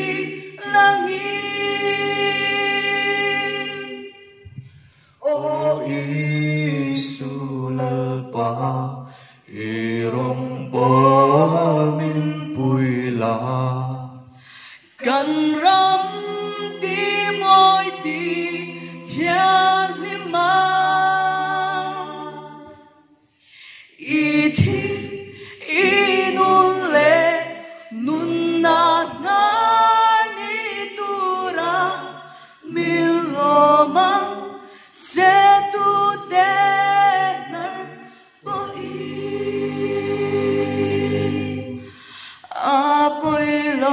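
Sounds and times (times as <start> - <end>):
a cappella group singing: 0.0 - 43.9.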